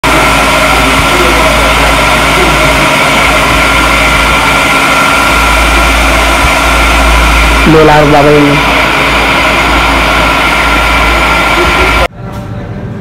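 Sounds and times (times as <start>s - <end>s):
fan or blower running: 0.0s - 13.0s.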